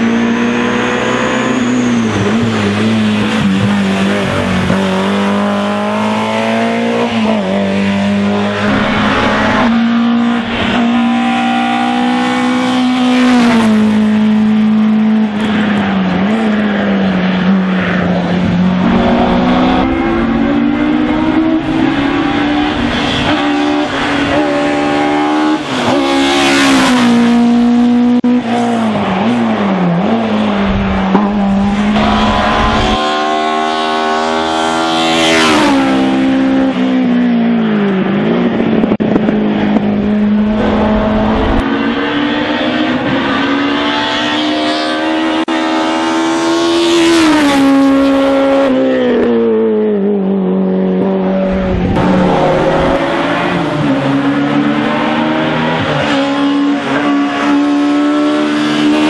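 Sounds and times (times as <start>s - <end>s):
racing car engines at high revs: 0.0s - 59.0s.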